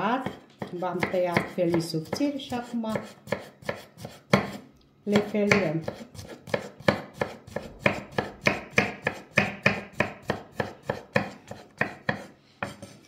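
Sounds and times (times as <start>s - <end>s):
knife chopping on wooden board: 0.0s - 13.0s.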